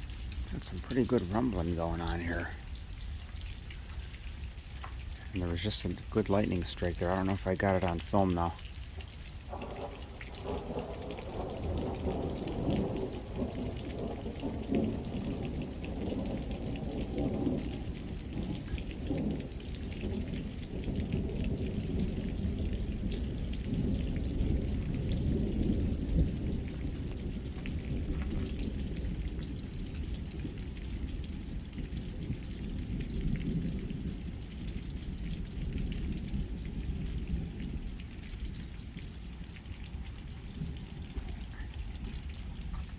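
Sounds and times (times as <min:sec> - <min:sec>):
rain falling: 0:00.0 - 0:42.9
thunder rumbling: 0:00.0 - 0:42.9.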